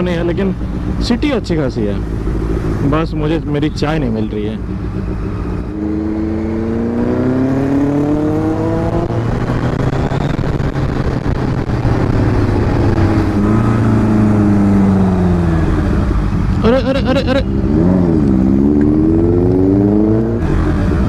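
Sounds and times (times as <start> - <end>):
low road rumble: 0.0 - 21.0
motorcycle engine accelerating: 0.0 - 21.0
second engine: 0.0 - 21.0.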